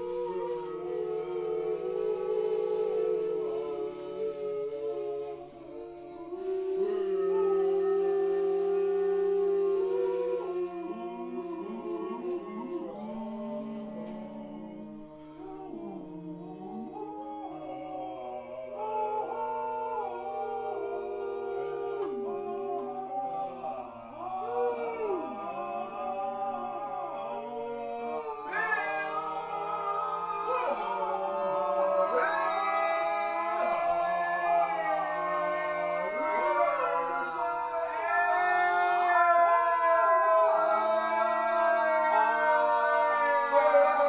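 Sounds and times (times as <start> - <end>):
wordless group vocals: 0.0 - 44.0.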